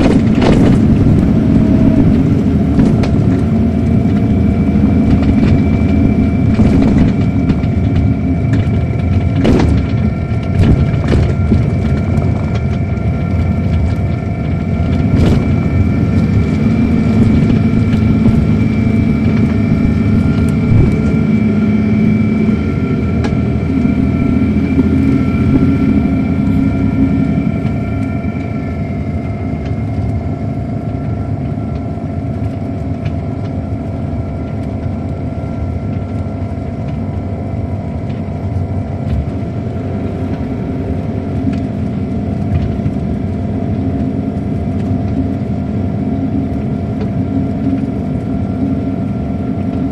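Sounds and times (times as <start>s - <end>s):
diesel engine rumble: 0.0s - 49.9s
steady high whine: 0.0s - 49.9s.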